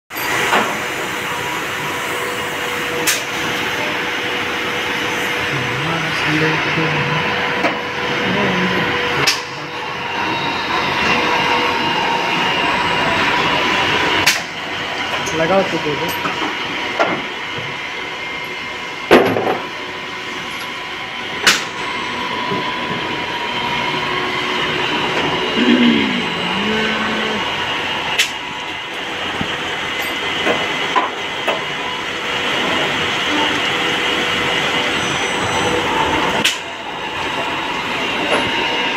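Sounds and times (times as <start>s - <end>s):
cnc machine whirring and hissing: 0.2s - 38.9s.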